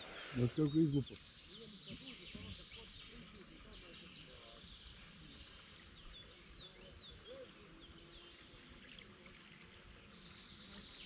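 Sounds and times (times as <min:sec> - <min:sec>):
low steady outdoor noise: 0:00.0 - 0:11.0.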